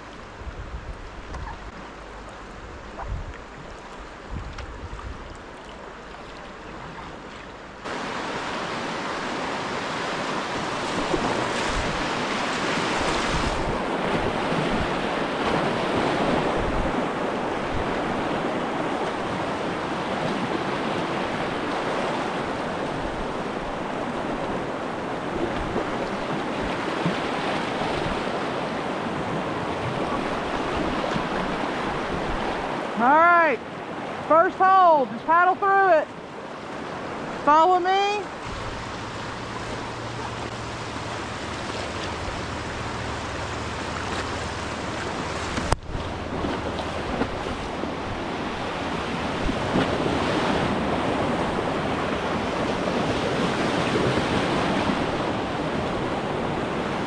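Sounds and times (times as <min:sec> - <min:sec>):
rushing whitewater: 0:00.0 - 0:57.0.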